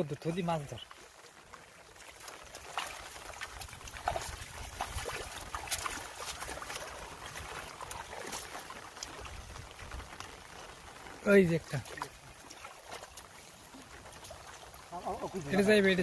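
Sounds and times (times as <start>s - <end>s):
water splashing and trickling: 0.0s - 16.0s
fish and net splashes and knocks: 1.4s - 14.9s.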